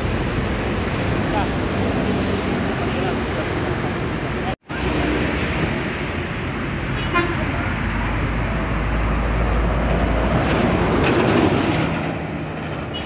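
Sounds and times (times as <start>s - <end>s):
bus passing on highway: 0.0s - 13.0s.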